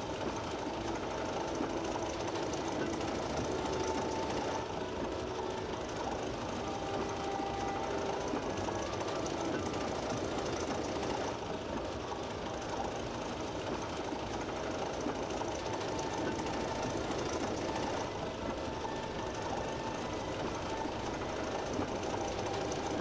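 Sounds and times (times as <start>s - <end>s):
model train motor whirring: 0.0s - 23.0s
wheels running on rails: 0.0s - 23.0s.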